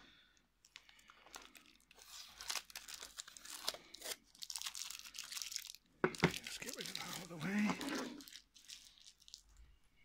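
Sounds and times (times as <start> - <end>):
packaging rustling and crinkling: 0.6 - 9.8.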